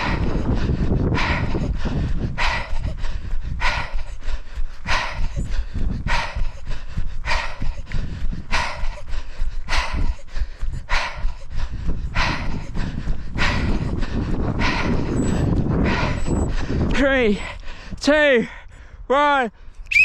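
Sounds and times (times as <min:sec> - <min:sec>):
wind rumble on microphone: 0:00.0 - 0:18.2
runner breathing hard: 0:00.0 - 0:19.9.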